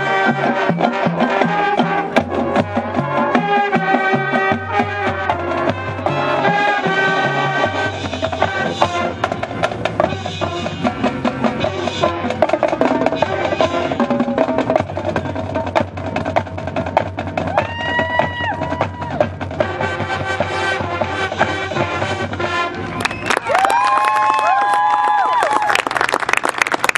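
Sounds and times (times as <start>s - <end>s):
low brass notes: 0.0s - 17.5s, 18.2s - 23.2s
marching band playing: 0.0s - 24.0s.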